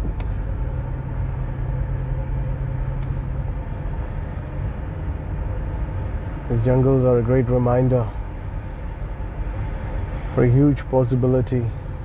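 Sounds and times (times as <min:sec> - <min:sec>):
car engine and road hum: 0:00.0 - 0:12.0.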